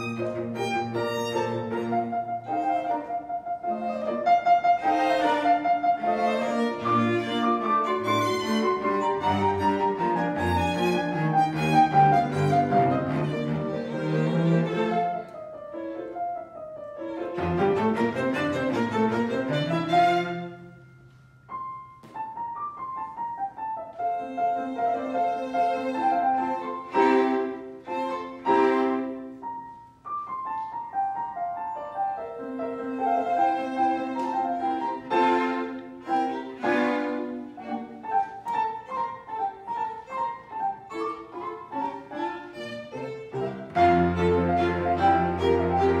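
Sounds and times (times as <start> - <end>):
live classical music: 0.0 - 46.0.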